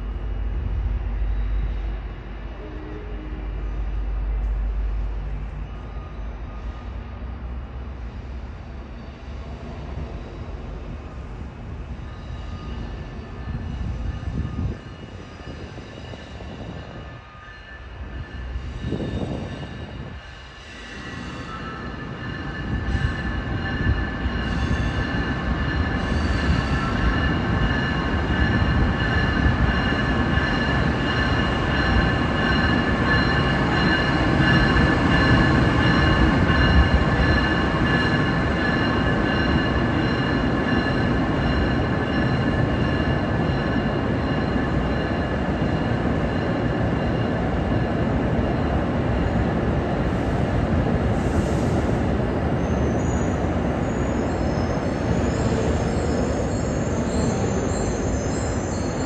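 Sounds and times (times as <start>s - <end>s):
train low rumble: 0.0s - 59.0s
train wheels squealing on rails: 0.0s - 59.0s.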